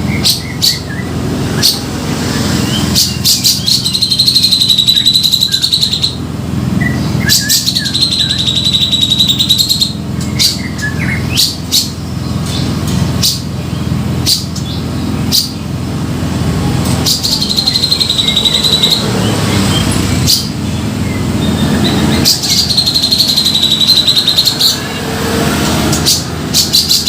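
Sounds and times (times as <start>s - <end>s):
bulbul buzzing trills: 0.0s - 27.0s.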